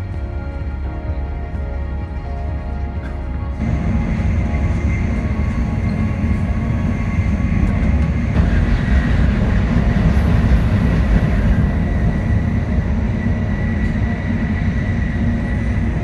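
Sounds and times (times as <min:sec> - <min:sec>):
bullet train rumbling at speed: 0:00.0 - 0:16.0
faint high whine: 0:00.0 - 0:16.0.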